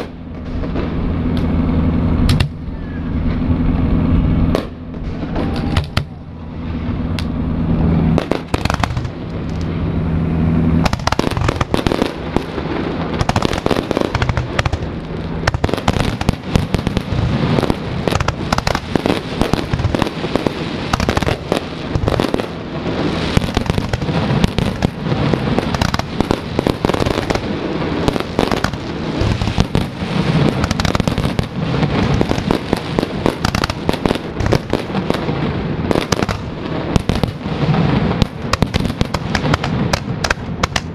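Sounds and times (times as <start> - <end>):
fireworks bangs and crackling: 0.0 - 40.9
low steady hum: 0.0 - 40.9.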